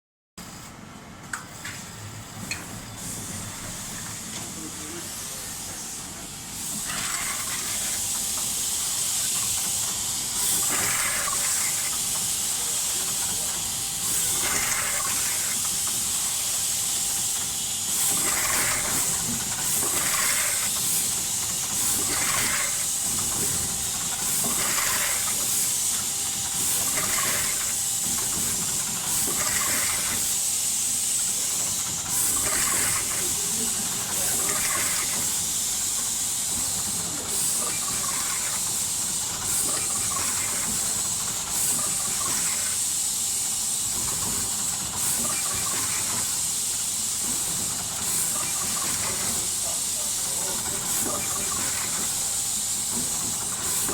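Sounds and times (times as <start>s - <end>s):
machinery high-pitched hiss: 2.9s - 53.9s.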